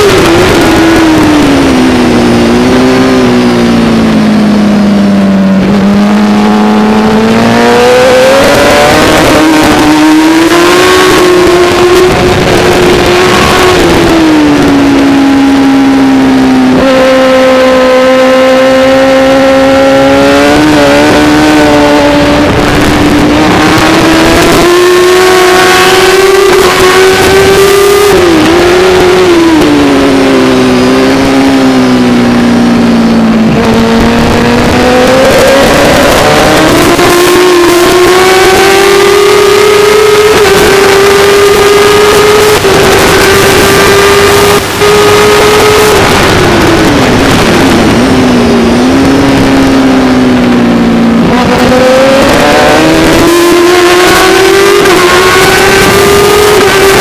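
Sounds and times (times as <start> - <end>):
racing motorcycle engine revving: 0.0 - 57.0
wind rush: 0.0 - 57.0.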